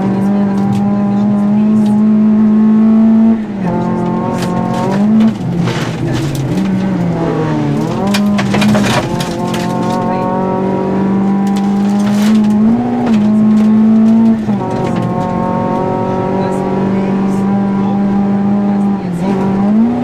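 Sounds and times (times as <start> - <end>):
rally car engine from cabin: 0.0 - 20.0.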